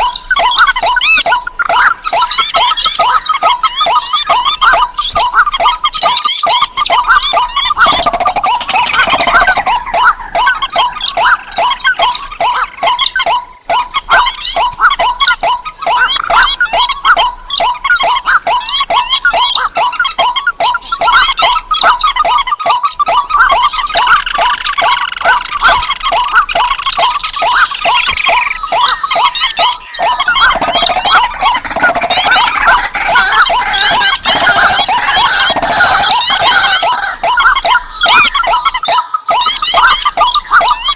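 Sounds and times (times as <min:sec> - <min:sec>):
rail bird repeated calls: 0:00.0 - 0:40.9
second bird calling: 0:00.0 - 0:40.9.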